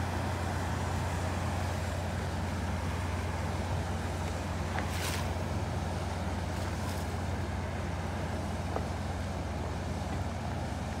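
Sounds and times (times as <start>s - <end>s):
boat engine droning: 0.0s - 11.0s
wind: 0.0s - 11.0s.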